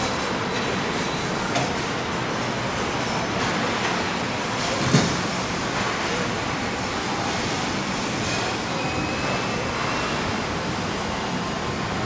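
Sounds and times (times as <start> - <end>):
factory machinery noise: 0.0 - 12.0.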